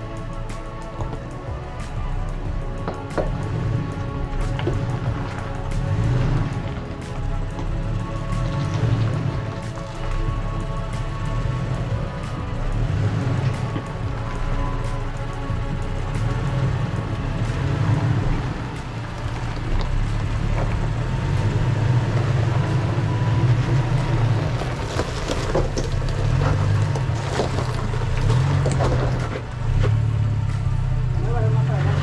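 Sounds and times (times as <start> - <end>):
off-road vehicle engine crawling: 0.0 - 32.0
rock crunching under tyres: 2.7 - 32.0.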